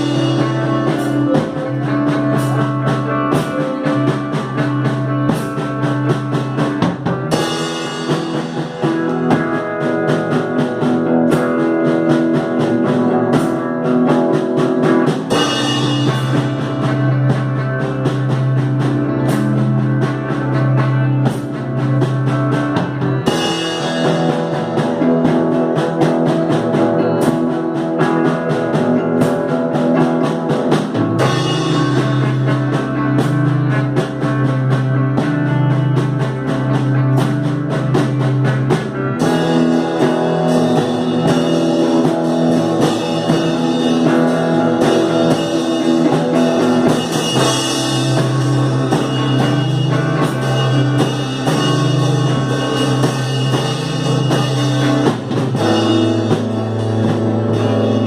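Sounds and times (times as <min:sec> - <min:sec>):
drum kit steady beat: 0:00.0 - 0:58.0
instrumental psychedelic rock: 0:00.0 - 0:58.0.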